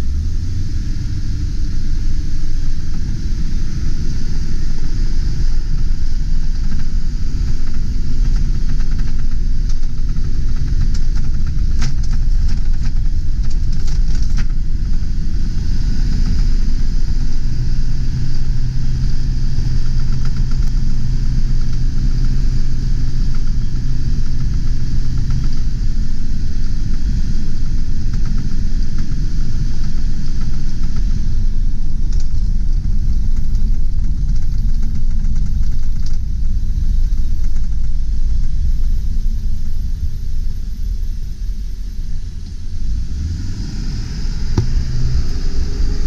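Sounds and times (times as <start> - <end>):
diesel truck engine rumbling: 0.0 - 46.0
steady engine drone: 0.0 - 46.0.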